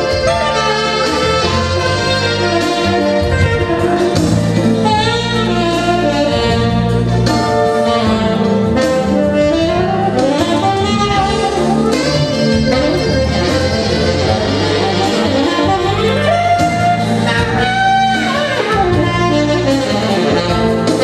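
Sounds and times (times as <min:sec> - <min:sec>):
low accompaniment: 0:00.0 - 0:21.0
tenor saxophone melody: 0:00.0 - 0:21.0.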